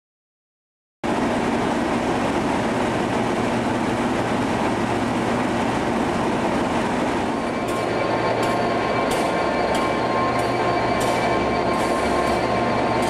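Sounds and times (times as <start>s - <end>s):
diesel locomotive idling: 1.1s - 13.0s.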